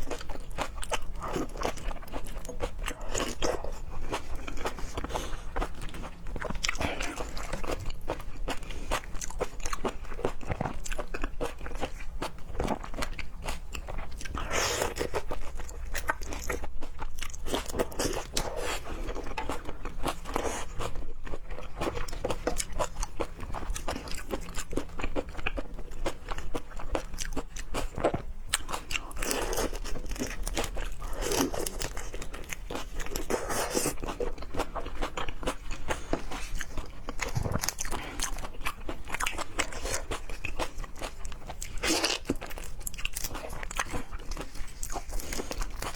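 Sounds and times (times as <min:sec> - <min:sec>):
chewing raw seafood: 0:00.0 - 0:45.9.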